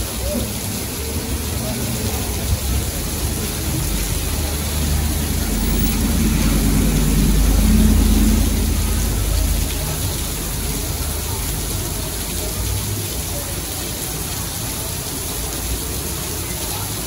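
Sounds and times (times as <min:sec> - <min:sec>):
heavy rain hissing on street: 0:00.0 - 0:17.0
vehicles driving on wet road: 0:00.0 - 0:17.0.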